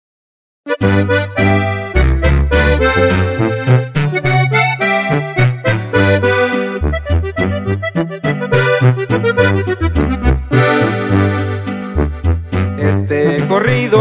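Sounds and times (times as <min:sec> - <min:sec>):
accordion melody: 0:00.7 - 0:14.0
heavy bass line: 0:00.7 - 0:14.0.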